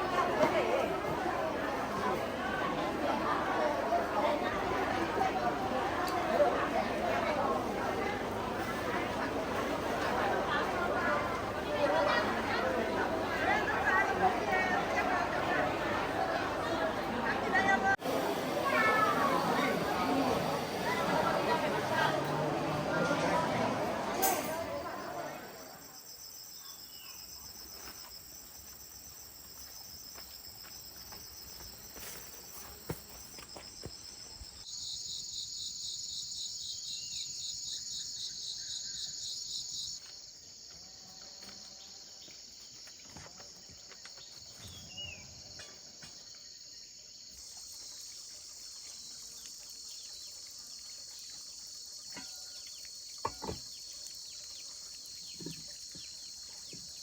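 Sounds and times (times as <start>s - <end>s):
insects trilling: 10.3s - 23.9s, 24.5s - 57.0s.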